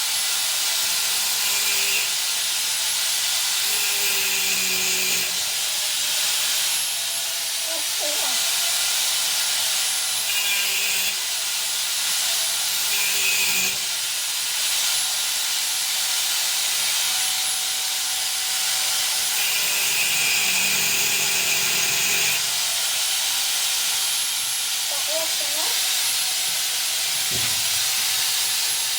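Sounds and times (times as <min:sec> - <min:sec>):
angle grinder cutting steel: 0:00.0 - 0:28.9.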